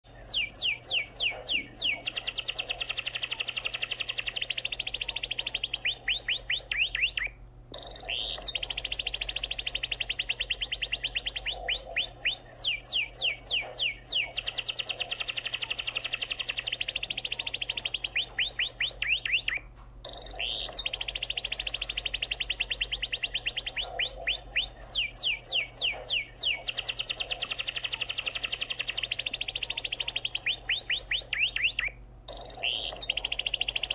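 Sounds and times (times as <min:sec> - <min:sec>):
high chirping trills: 0:00.0 - 0:33.9.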